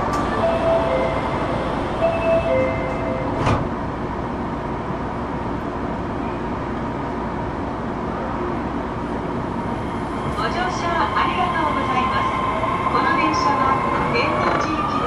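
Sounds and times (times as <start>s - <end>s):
subway car background noise: 0.0s - 15.0s.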